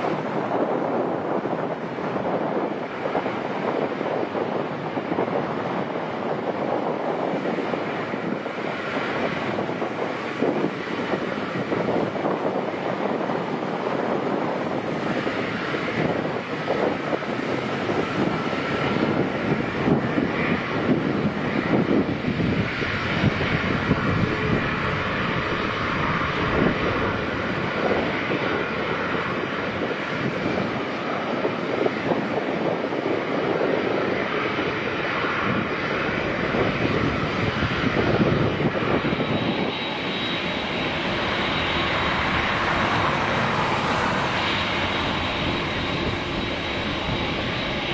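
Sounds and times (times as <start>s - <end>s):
jet engine high whine: 0.0s - 47.9s
jet engines running: 0.0s - 47.9s.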